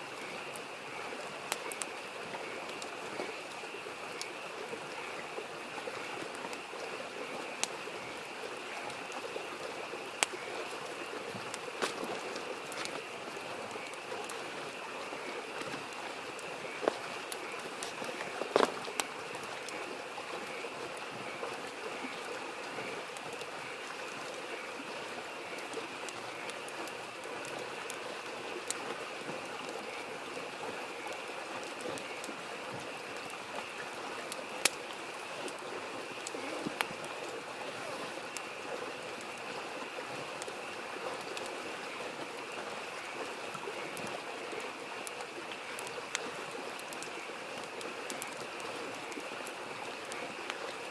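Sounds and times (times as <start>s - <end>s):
babbling stream: 0.0s - 50.9s
campfire crackling and popping: 0.0s - 50.9s
frogs chorus: 0.0s - 50.9s.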